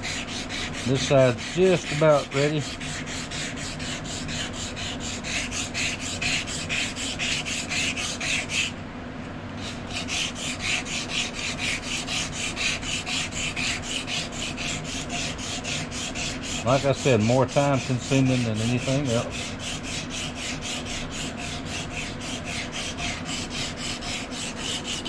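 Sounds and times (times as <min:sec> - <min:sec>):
sandpaper rubbing back and forth: 0:00.0 - 0:08.7, 0:09.6 - 0:25.0.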